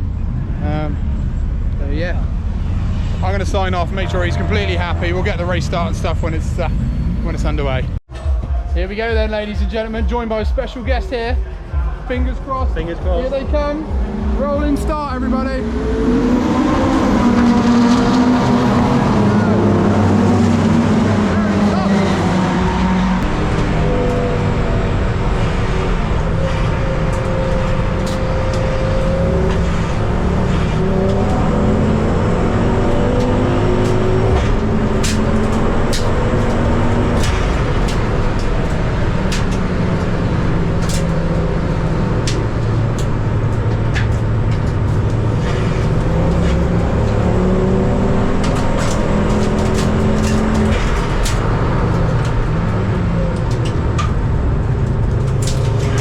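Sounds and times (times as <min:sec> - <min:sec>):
race car engines accelerating: 0:00.0 - 0:56.0.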